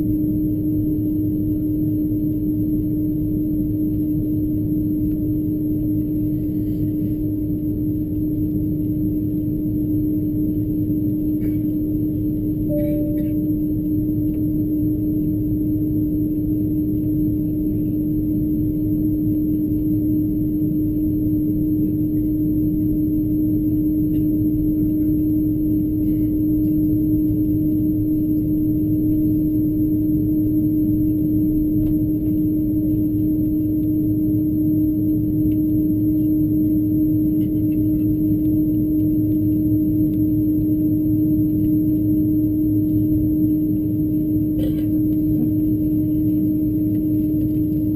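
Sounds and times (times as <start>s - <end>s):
airliner cabin engine drone: 0.0s - 47.9s.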